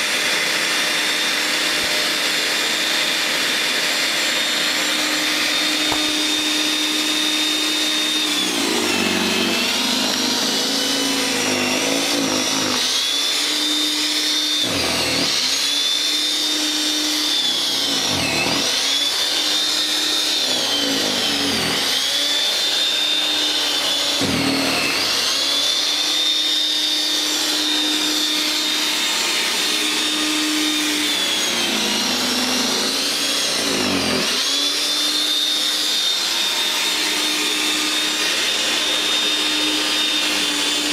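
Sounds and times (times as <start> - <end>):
snow thrower motor whining: 0.0 - 40.9.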